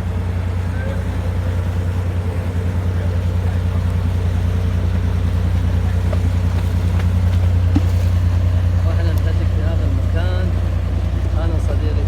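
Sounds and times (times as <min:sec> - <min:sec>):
ship diesel engine throbbing: 0:00.0 - 0:12.0.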